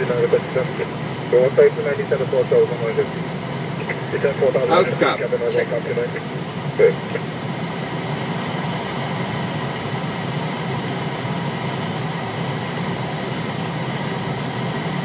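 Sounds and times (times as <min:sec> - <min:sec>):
airliner cockpit airflow and engines: 0:00.0 - 0:15.0.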